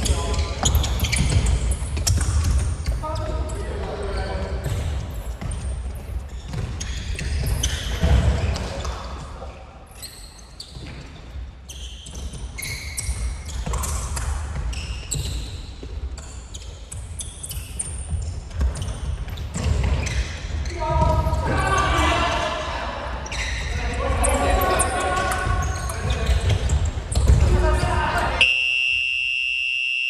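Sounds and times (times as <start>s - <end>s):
sneaker squeaks: 0.0s - 30.0s.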